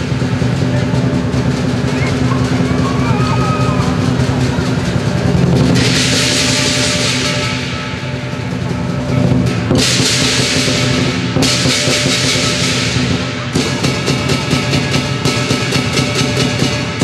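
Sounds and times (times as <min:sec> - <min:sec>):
cymbals crashing: 0:00.0 - 0:17.0
gong: 0:00.0 - 0:17.0
large drum beating fast rhythm: 0:00.0 - 0:17.0.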